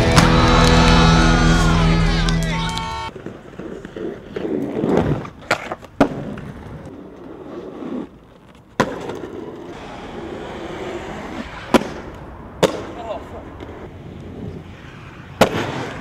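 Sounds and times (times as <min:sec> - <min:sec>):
skates clacking on concrete: 0:02.2 - 0:16.0
inline skates rolling on asphalt: 0:03.1 - 0:16.0.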